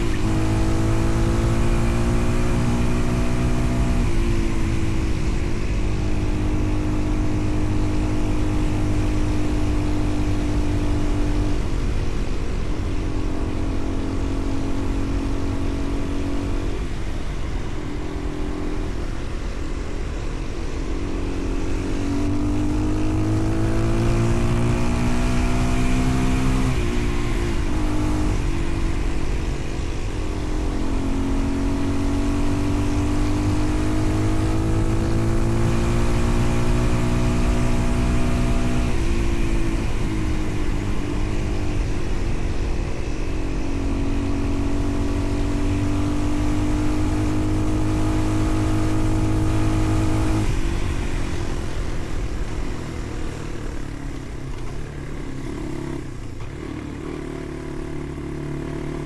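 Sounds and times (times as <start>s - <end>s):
road and wind noise: 0.0s - 59.0s
vehicle engine shifting gears: 0.0s - 59.0s.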